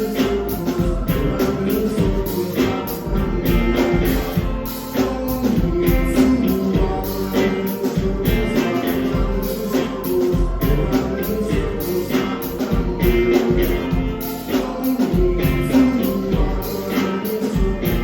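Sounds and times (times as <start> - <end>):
live rock band: 0.0 - 18.0.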